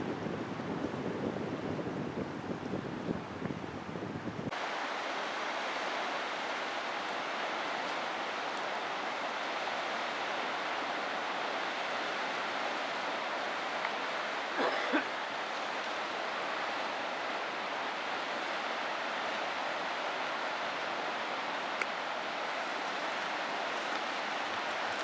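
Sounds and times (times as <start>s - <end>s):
river rapids rushing: 4.5s - 25.0s.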